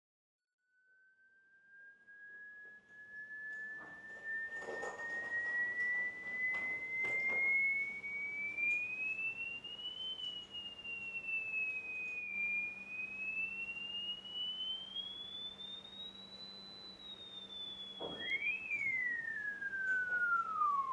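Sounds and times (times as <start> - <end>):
sine test tone gliding upward: 0.6 - 20.9
faint steady hum: 3.5 - 20.9.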